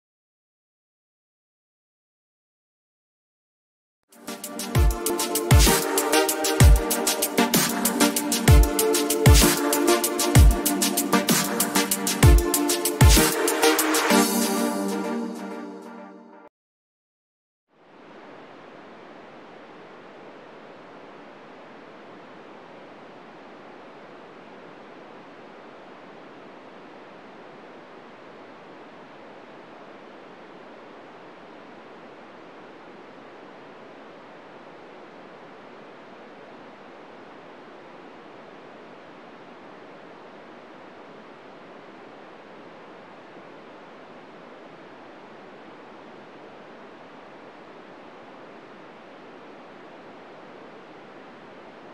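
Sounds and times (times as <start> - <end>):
radio receiver hiss: 4.2 - 15.0, 17.8 - 51.9.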